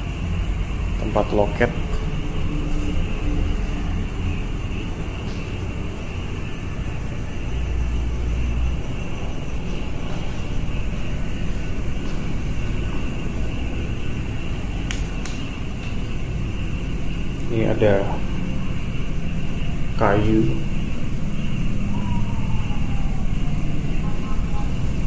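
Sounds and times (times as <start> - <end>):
high-pitched drone: 0.0 - 14.9, 15.5 - 25.0
road traffic rumble: 0.0 - 25.0.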